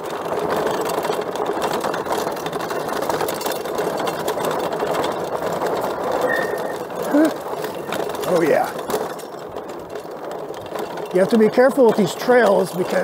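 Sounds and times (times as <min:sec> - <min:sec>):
bike drivetrain whirring: 0:00.0 - 0:13.0
fine rattling: 0:00.0 - 0:13.0
tyres on dirt: 0:00.0 - 0:13.0.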